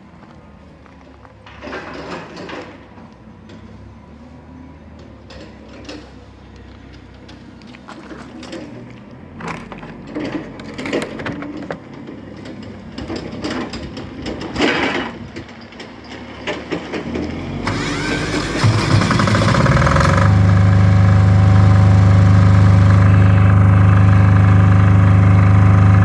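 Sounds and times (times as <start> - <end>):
diesel engine cranking and starting: 0.2 - 26.0.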